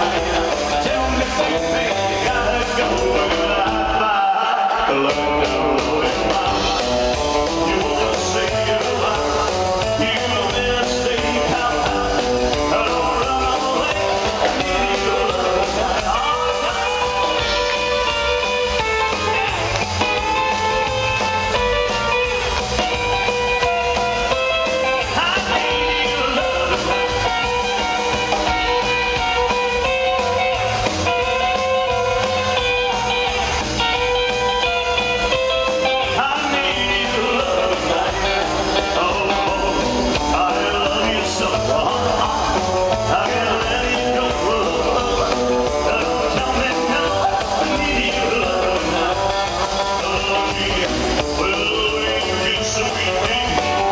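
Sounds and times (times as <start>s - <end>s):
drums: 0.0s - 53.9s
electric guitar: 0.0s - 53.9s
man singing: 0.0s - 53.9s
upright double bass: 0.0s - 53.9s.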